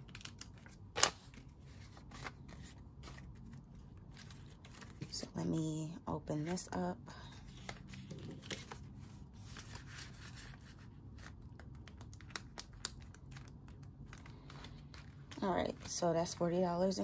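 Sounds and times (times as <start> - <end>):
plastic and paper crinkling: 0.0 - 5.4, 6.3 - 17.0.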